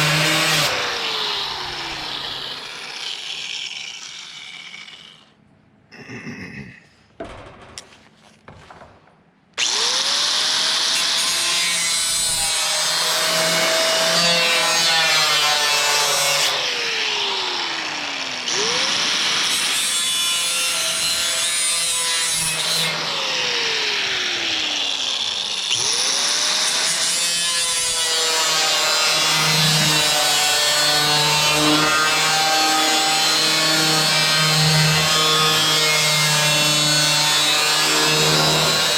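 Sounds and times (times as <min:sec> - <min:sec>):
power tool cutting metal sheet: 0:00.0 - 0:05.3, 0:09.6 - 0:38.9.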